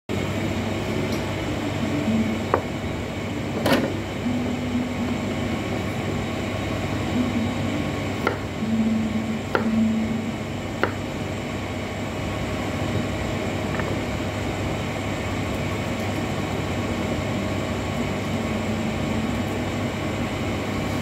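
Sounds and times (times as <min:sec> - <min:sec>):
low machine hum: 0:00.1 - 0:21.0.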